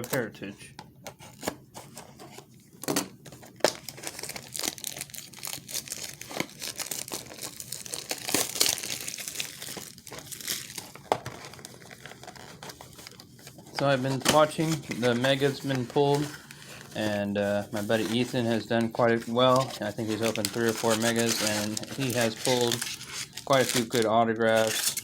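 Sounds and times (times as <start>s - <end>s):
plastic shrink wrap crinkling: 1.3s - 25.0s.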